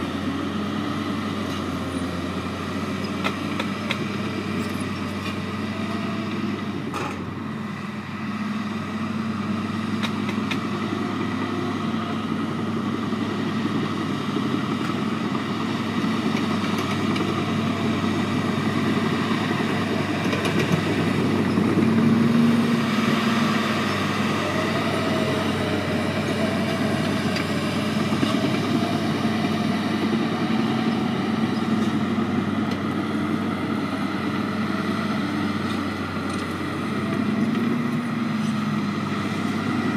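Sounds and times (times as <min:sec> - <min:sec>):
dozer diesel engine running: 0:00.0 - 0:39.9.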